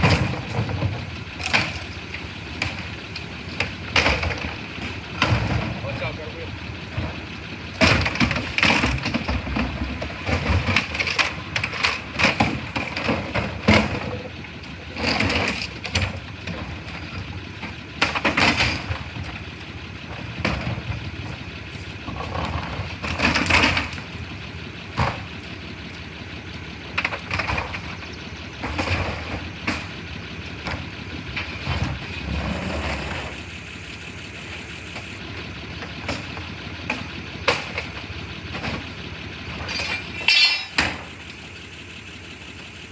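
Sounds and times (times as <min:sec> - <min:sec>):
garbage truck engine running: 0:00.0 - 0:42.9.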